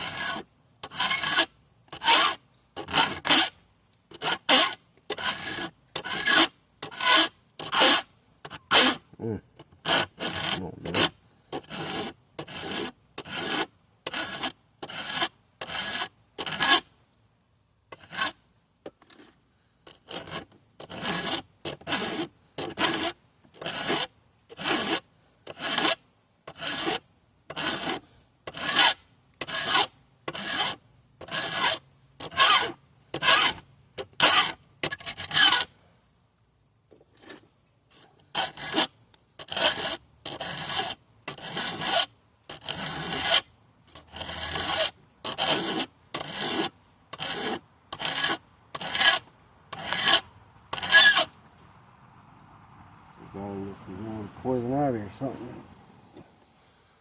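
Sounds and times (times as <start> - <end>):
file rasping on chainsaw chain: 0.0 - 3.5, 4.1 - 9.0, 9.6 - 16.9, 17.9 - 18.4, 19.0 - 35.7, 38.2 - 51.4.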